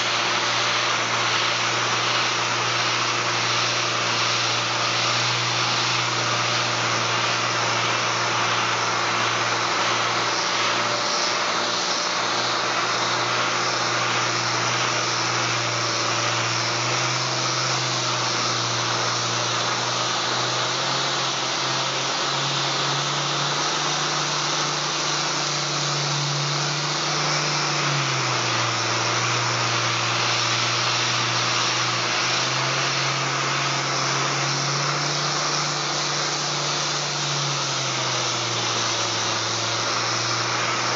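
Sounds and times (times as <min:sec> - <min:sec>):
air sander sanding: 0:00.0 - 0:40.9.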